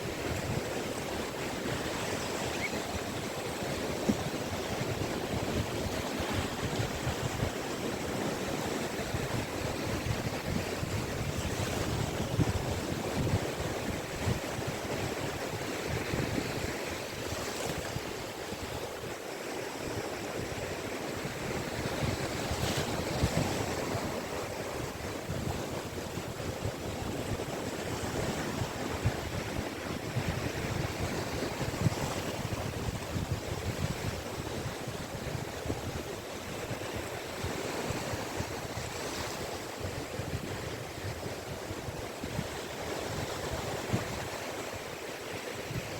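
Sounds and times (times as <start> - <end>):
waves breaking on beach: 0.0 - 45.9
wind on microphone: 0.0 - 45.9.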